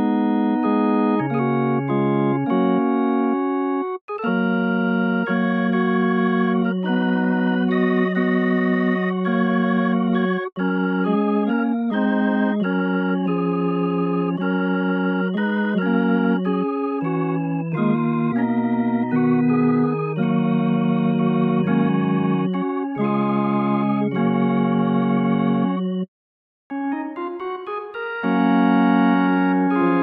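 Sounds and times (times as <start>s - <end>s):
organ playing held chords: 0.0s - 26.1s, 26.7s - 30.0s.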